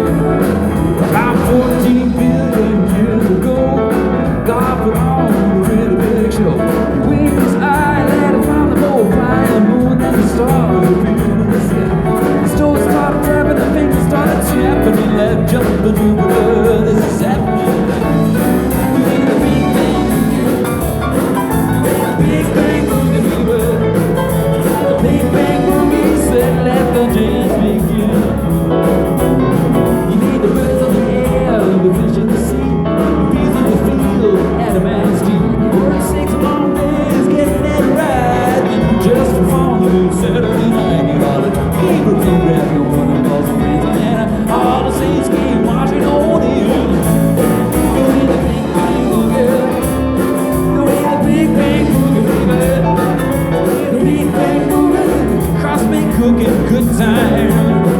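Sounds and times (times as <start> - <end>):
live band playing country-rock: 0.0 - 57.9.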